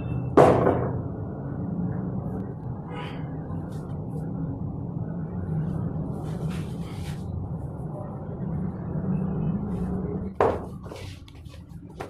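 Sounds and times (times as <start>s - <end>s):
low rumble: 1.0s - 11.2s.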